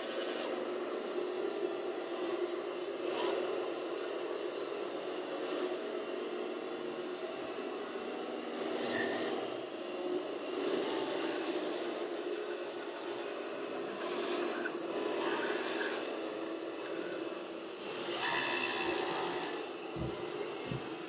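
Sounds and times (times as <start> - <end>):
high electric motor whine: 0.0 - 21.0.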